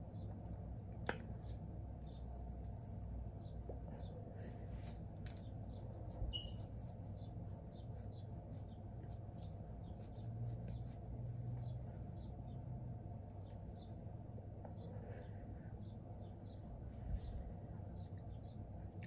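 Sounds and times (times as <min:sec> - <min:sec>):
bird chirping: 0:00.0 - 0:00.4, 0:01.3 - 0:02.4, 0:03.3 - 0:04.6, 0:05.4 - 0:14.0, 0:14.7 - 0:18.7
low steady hum: 0:00.0 - 0:19.0.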